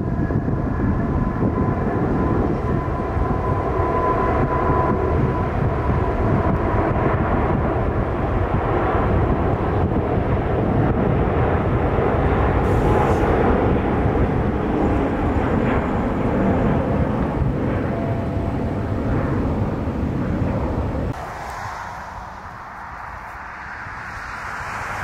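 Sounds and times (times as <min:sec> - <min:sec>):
faint engine whine: 0:00.0 - 0:25.0
jet engines rumbling: 0:00.0 - 0:25.0.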